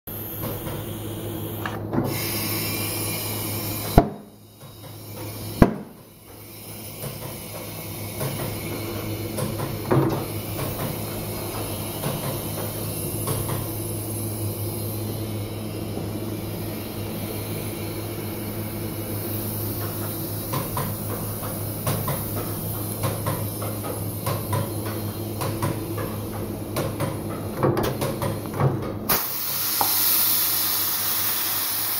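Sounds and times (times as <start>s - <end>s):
machinery humming: 0.1s - 31.9s.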